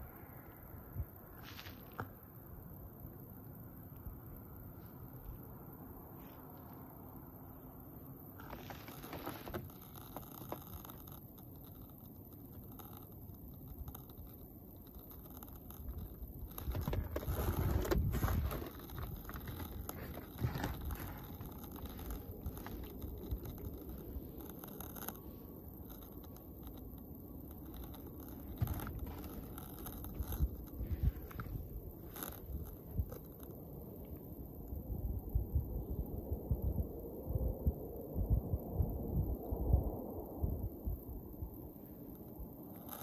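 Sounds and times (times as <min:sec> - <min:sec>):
low rumble on microphone: 0:08.1 - 0:43.0.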